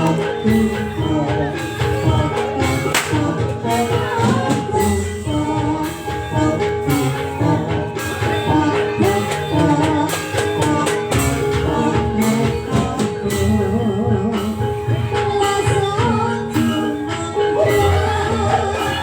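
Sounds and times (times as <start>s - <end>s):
drum and percussion strokes: 0.0s - 19.0s
person singing: 0.0s - 19.0s.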